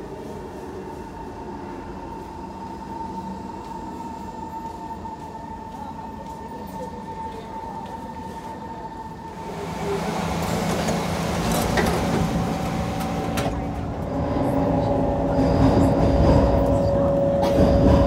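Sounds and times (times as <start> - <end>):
metro train rumble: 0.0 - 18.0.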